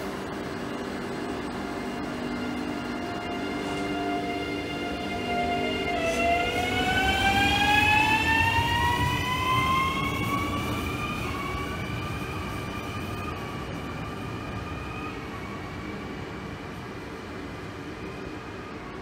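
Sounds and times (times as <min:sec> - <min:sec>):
train traction motors whining: 0:00.0 - 0:18.8.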